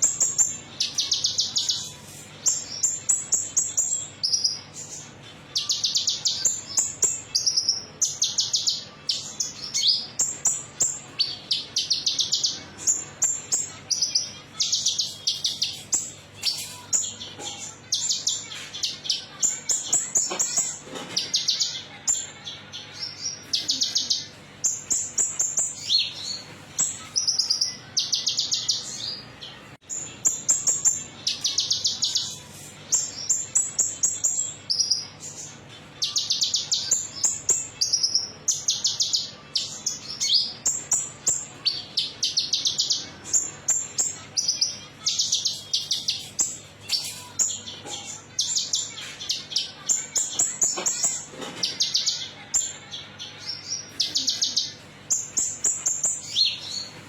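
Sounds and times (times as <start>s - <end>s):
songbird metallic chirping song: 0.0s - 57.0s.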